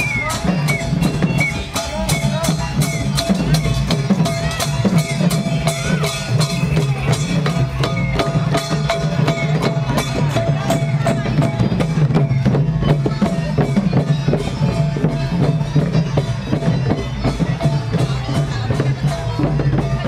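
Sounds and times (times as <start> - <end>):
hand drums beaten rhythmically: 0.0 - 20.0.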